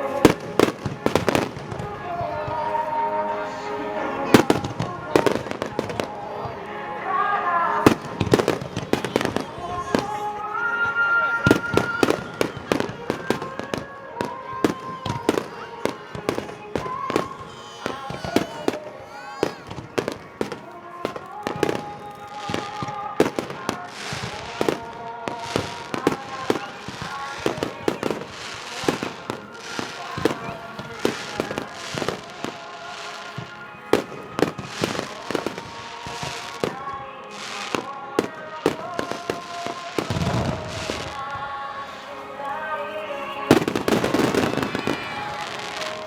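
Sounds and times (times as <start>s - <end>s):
fireworks bangs and crackling: 0.0s - 46.0s
music playing: 0.0s - 46.0s.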